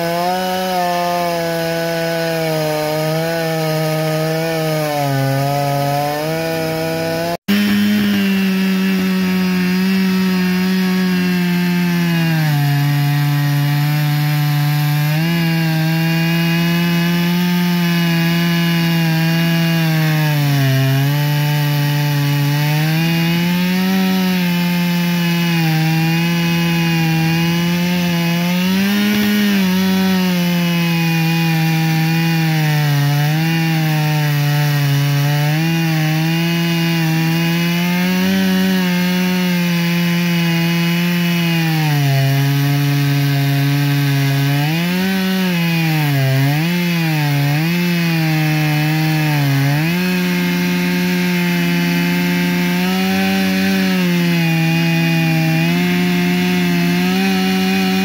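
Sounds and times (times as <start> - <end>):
chainsaw cutting log at full throttle: 0.0 - 58.0.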